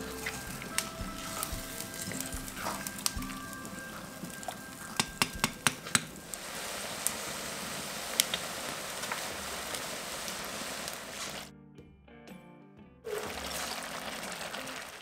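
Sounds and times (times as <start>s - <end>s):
burning wood crackling: 0.0s - 11.5s, 13.1s - 15.0s
stew sizzling in a pot: 0.0s - 11.5s, 13.1s - 15.0s.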